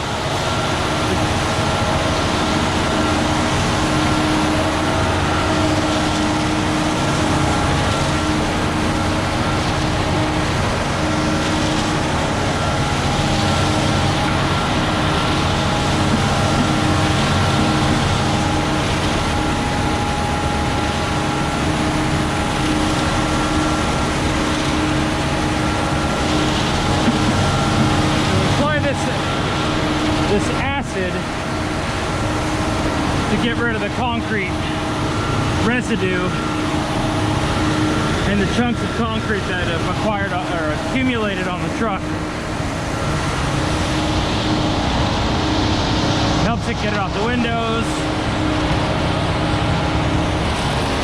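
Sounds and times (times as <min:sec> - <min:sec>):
diesel engine running: 0:00.0 - 0:51.0
steady whine: 0:00.0 - 0:51.0.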